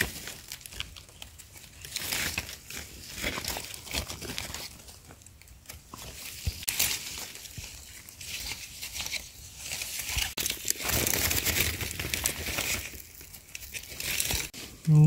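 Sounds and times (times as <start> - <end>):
crinkling and rustling: 0.0 - 14.9.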